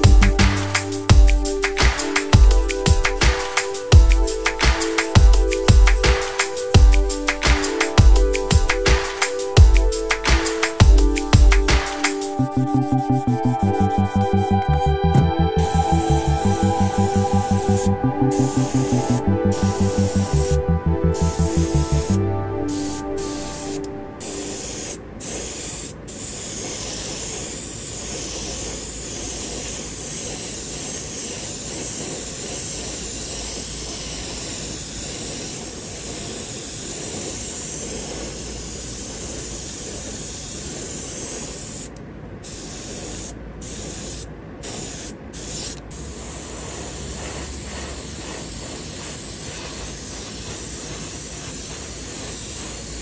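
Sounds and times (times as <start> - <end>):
airbrush spraying: 0.0 - 53.0.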